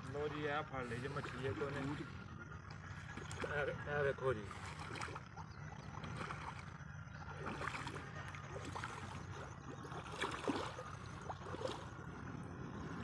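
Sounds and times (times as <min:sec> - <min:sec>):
feet wading through muddy water: 0:00.0 - 0:13.0
low background rumble: 0:00.0 - 0:13.0.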